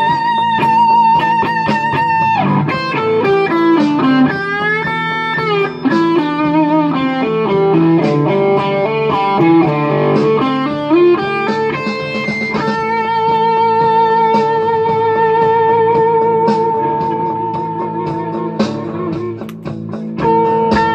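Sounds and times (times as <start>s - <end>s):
electric guitar lead melody: 0.0s - 20.9s
low guitar accompaniment: 0.0s - 20.9s.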